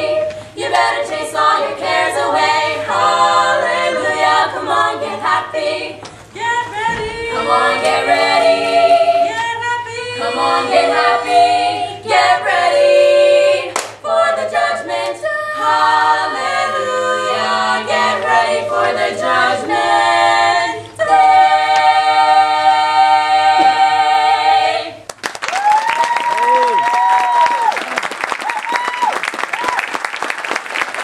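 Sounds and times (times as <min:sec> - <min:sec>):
women singing a cappella harmony: 0:00.0 - 0:25.1.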